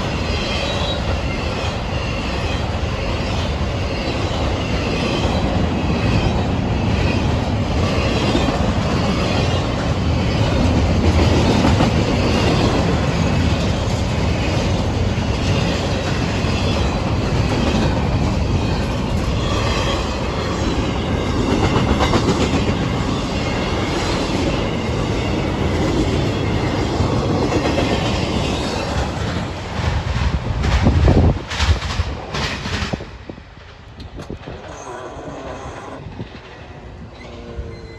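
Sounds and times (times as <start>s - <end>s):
train wheels rumbling on rails: 0.0s - 37.9s.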